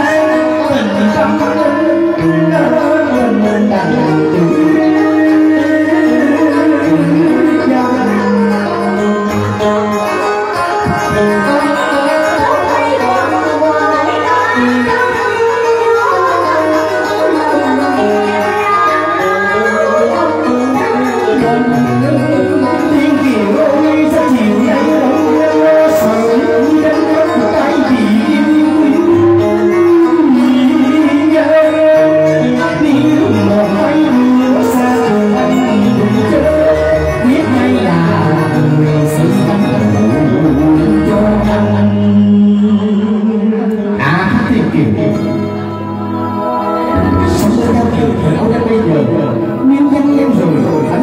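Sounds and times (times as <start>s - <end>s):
instrumental backing music: 0.0s - 51.0s
person singing: 0.0s - 51.0s.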